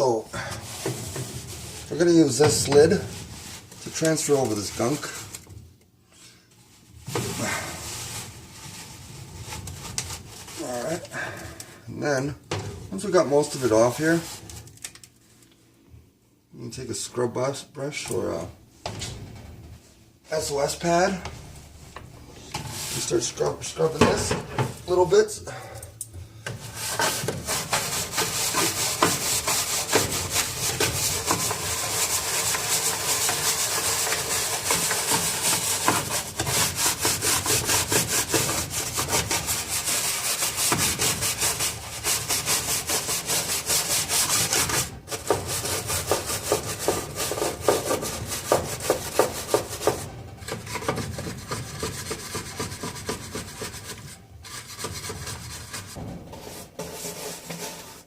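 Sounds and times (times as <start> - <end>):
brush scrubbing a basin: 0.0 - 5.4, 6.7 - 12.3, 12.9 - 14.6, 22.4 - 25.6, 26.6 - 58.0.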